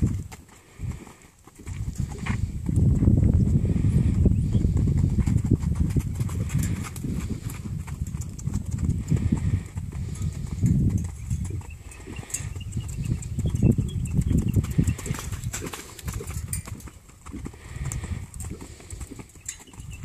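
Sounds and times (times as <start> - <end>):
horse hooves thudding on dirt: 0.0 - 20.0.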